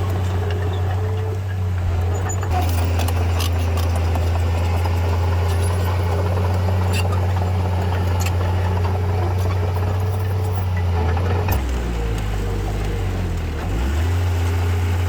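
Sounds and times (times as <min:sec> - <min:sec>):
heavy machinery diesel engine droning: 0:00.0 - 0:15.0.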